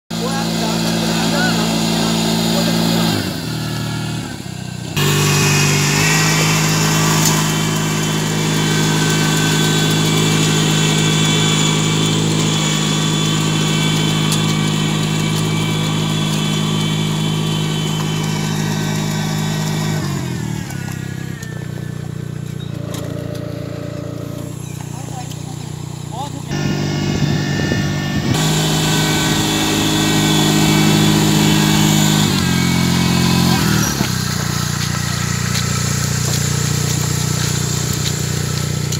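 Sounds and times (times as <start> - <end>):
small engine running: 0.1 - 38.9.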